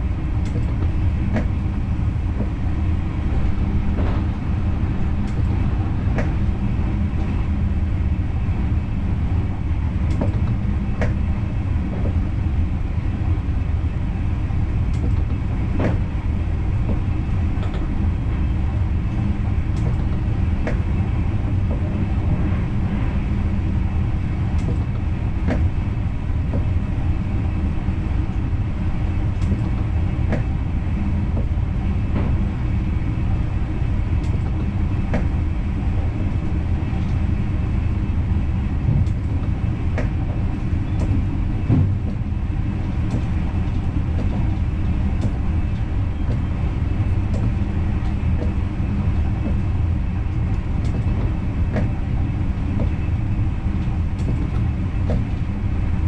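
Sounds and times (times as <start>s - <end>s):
train low rumble: 0.0s - 56.0s.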